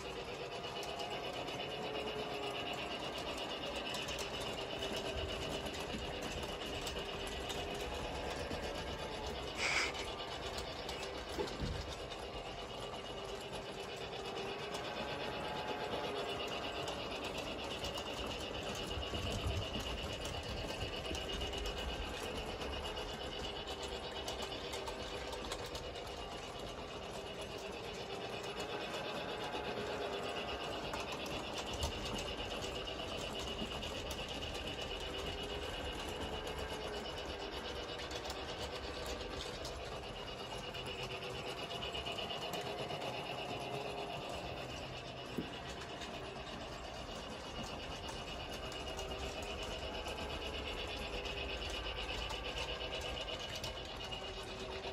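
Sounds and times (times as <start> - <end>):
toy train motor whirring: 0.0 - 54.9.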